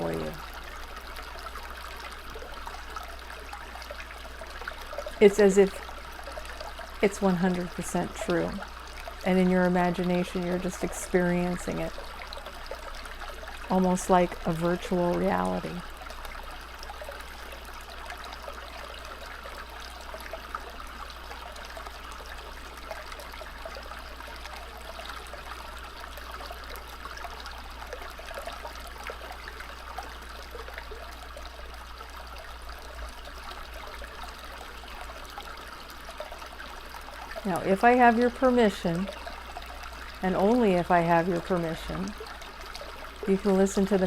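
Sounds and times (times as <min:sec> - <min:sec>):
stream babbling: 0:00.0 - 0:44.0.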